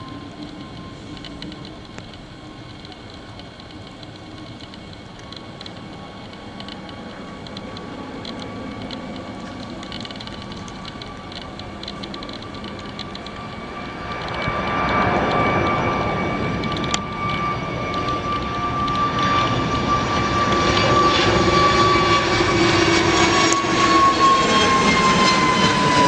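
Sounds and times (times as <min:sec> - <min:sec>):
high engine whine: 0:00.0 - 0:26.0
jet engines roaring: 0:00.0 - 0:26.0.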